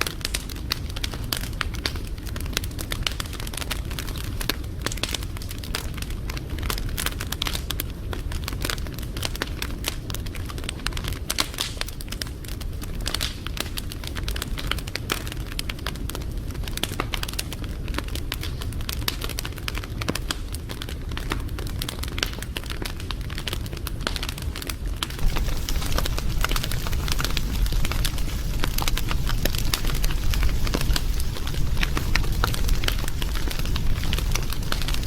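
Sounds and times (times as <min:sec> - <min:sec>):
low rumble of flames: 0:00.0 - 0:35.0
wood fire crackling: 0:00.0 - 0:35.0.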